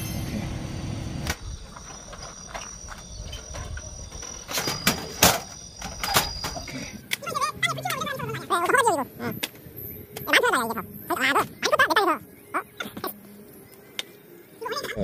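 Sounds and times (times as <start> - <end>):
faint insect chirp: 1.4 - 15.0.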